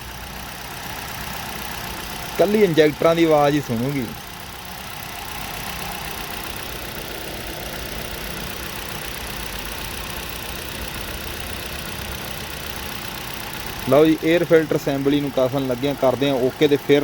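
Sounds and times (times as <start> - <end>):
car engine idling: 0.0 - 17.0
fuel injectors ticking: 0.0 - 17.0.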